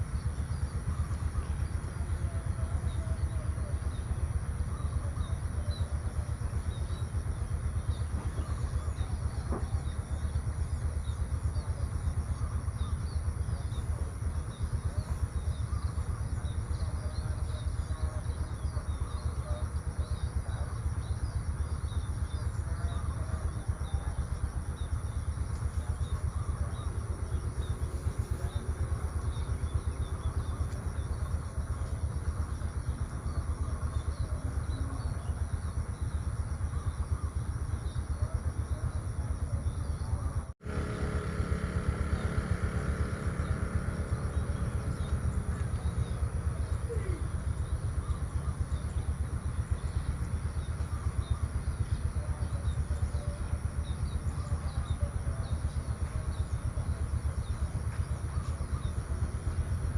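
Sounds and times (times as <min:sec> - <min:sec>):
faint chirps: 0:00.0 - 0:59.9
steady low rumble: 0:00.0 - 0:59.9.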